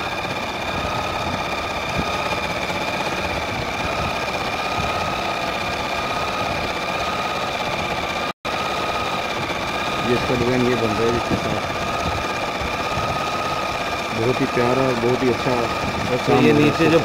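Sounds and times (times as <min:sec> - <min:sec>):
sewing machine running: 0:00.0 - 0:17.0.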